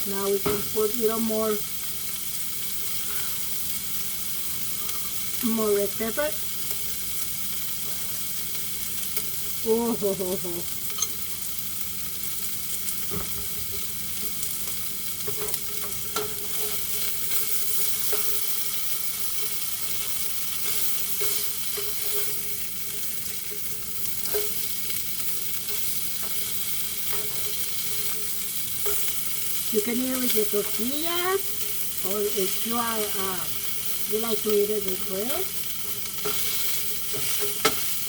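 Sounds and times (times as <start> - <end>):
chicken sizzling in a skillet: 0.0 - 38.0.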